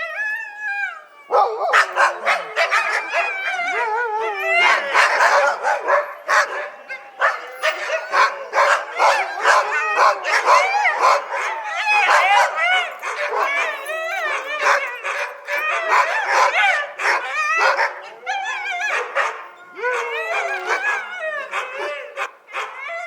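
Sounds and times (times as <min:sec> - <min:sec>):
dogs whining: 0:00.0 - 0:23.0
dogs barking and yipping: 0:01.0 - 0:23.0.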